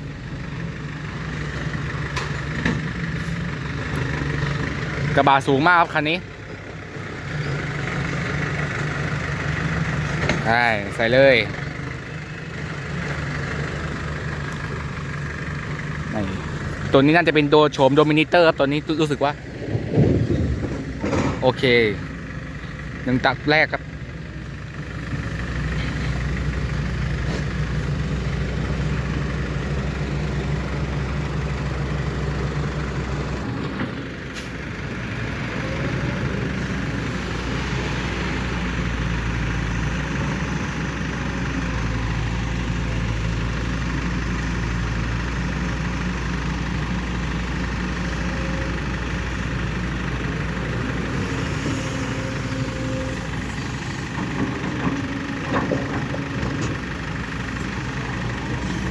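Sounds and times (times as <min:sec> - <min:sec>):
dump truck engine running: 0:00.0 - 0:58.9
excavator diesel engine working: 0:00.0 - 0:58.9.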